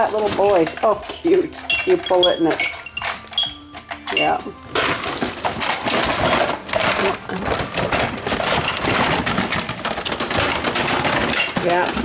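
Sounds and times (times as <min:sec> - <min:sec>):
continuous rustling: 0:00.0 - 0:12.0
small toys clattering: 0:00.0 - 0:12.0.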